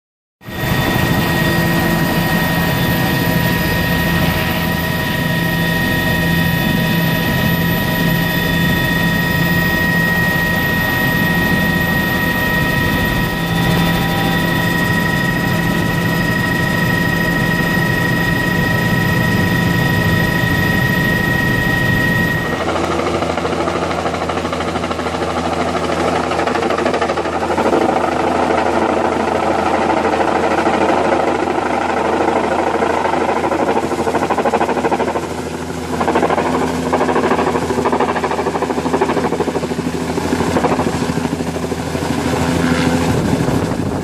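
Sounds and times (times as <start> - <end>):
helicopter engine whine and drone: 0.4 - 44.0.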